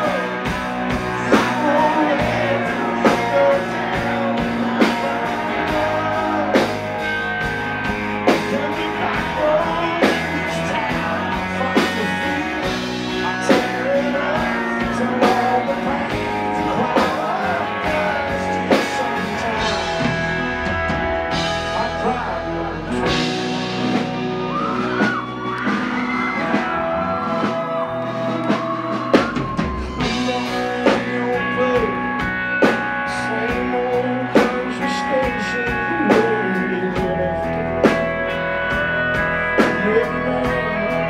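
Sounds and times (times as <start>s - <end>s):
man singing: 0.0s - 24.1s, 29.7s - 41.0s
bass guitar: 0.0s - 41.0s
drum kit backbeat: 0.0s - 41.0s
electric guitar: 0.0s - 41.0s.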